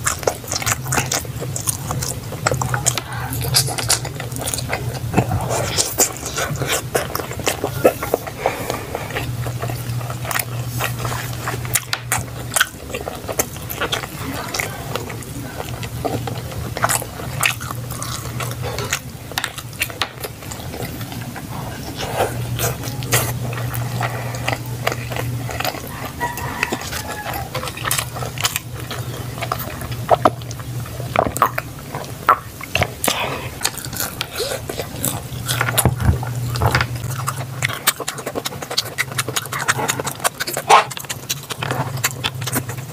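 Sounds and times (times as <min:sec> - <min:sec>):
low hum: 0:00.0 - 0:42.9
person chewing and biting food: 0:00.0 - 0:42.9.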